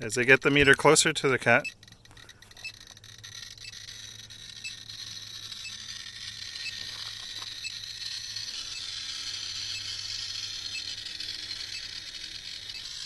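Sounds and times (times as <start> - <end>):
geiger counter crackling: 0.0 - 13.0.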